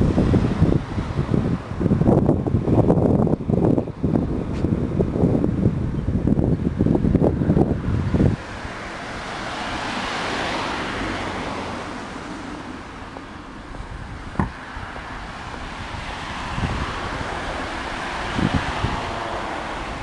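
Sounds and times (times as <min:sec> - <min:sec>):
car tyre noise: 0:00.0 - 0:20.0
steady traffic hush: 0:00.0 - 0:20.0.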